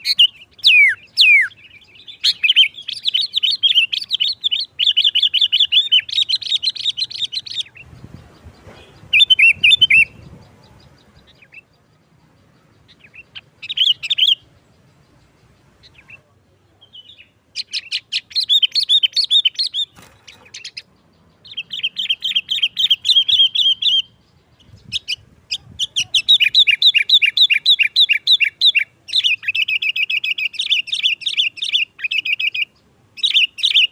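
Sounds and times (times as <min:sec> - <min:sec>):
bird singing chattering notes: 0:00.0 - 0:33.9.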